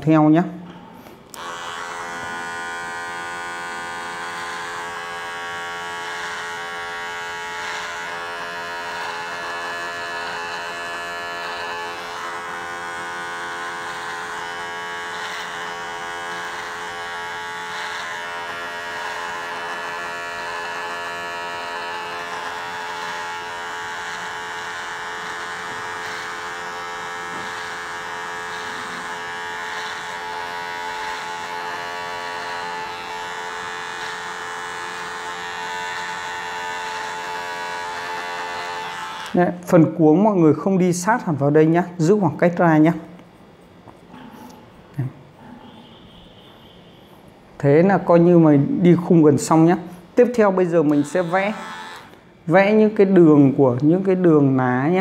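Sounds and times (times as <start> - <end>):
electric hair trimmer buzzing: 1.2 - 43.2, 47.8 - 55.0.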